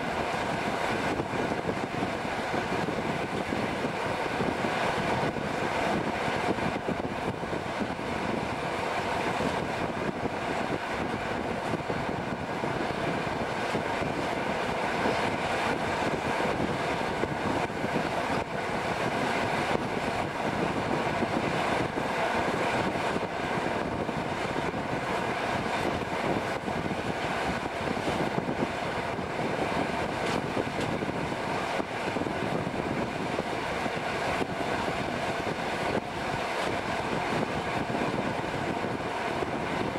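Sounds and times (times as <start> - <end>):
train wheels rushing on rail: 0.0 - 39.9.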